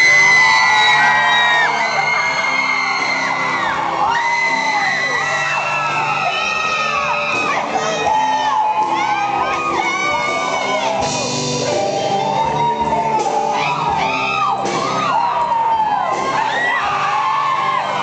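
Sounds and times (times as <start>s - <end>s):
audience shouting and whooping: 0.0s - 18.0s
live rock band: 0.0s - 18.0s.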